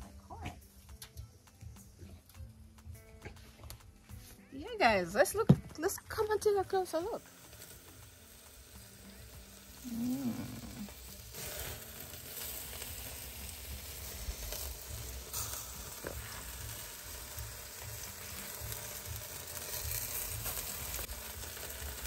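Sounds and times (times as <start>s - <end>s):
food sizzling on grill: 0.0s - 22.0s.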